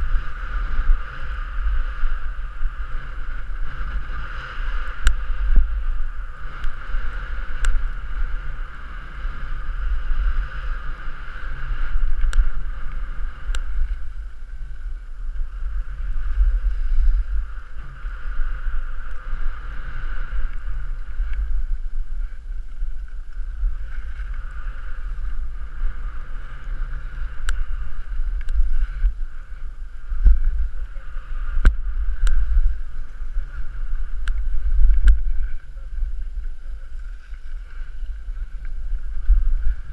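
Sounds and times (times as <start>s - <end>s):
skis sliding on snow: 0.0s - 39.9s
wind buffeting microphone: 0.0s - 39.9s.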